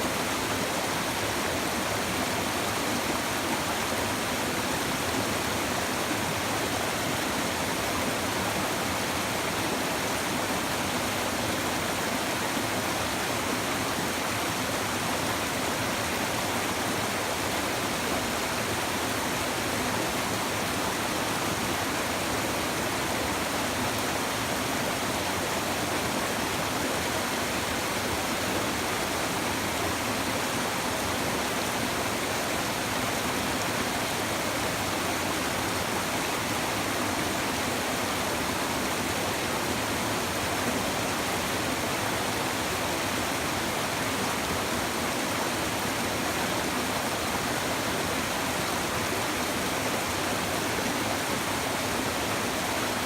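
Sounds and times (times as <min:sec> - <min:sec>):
river babbling over stones: 0:00.0 - 0:53.0.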